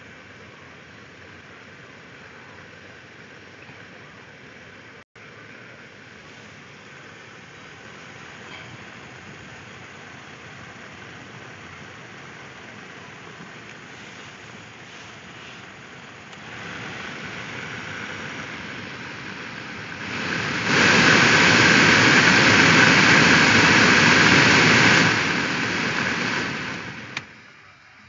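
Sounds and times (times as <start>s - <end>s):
blower fan blowing air: 0.0s - 28.0s.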